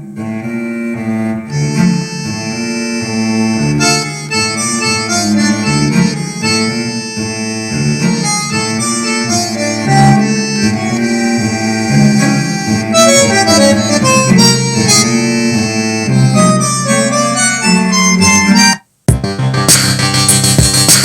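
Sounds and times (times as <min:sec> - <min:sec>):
music through computer speakers: 0:01.5 - 0:21.0.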